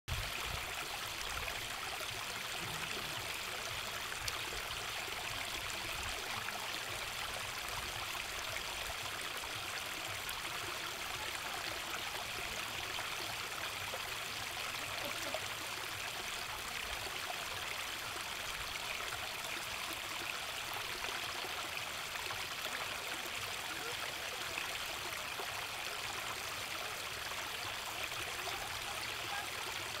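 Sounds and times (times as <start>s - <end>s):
stream babbling over rocks: 0.1s - 30.0s.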